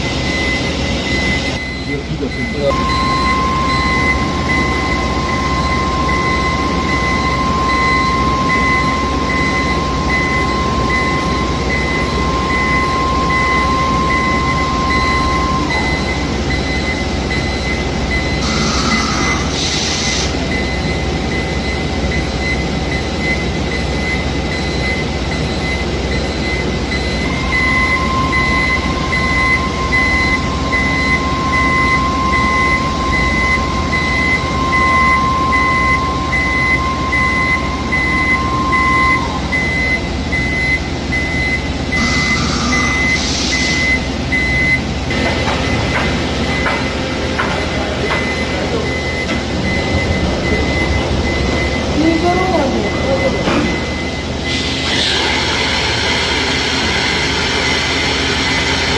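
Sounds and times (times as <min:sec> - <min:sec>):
repeating beep: 0:00.0 - 0:19.5, 0:20.5 - 0:54.6
machine high whine: 0:00.0 - 0:58.9.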